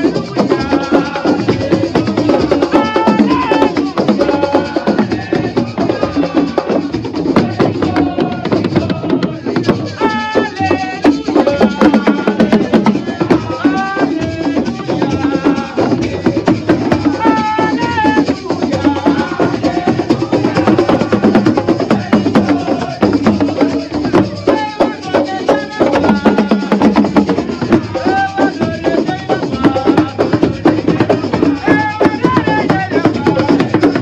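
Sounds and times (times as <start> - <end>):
fast hand drumming: 0.0 - 34.0
man singing into a microphone: 0.0 - 34.0.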